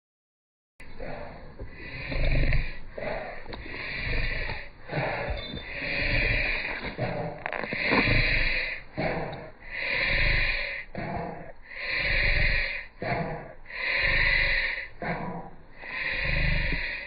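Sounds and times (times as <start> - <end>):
dog breathing noisily: 0.8 - 17.0.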